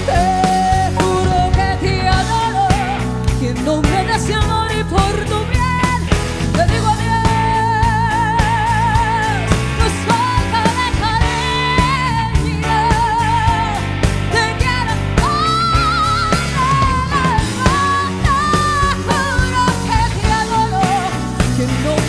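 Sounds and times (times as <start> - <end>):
rock band playing: 0.0 - 22.0
woman singing with vibrato: 0.0 - 22.0.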